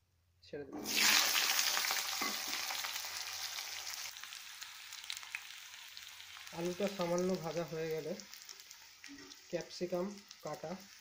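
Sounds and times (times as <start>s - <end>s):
potatoes sizzling in oil: 0.8s - 11.0s.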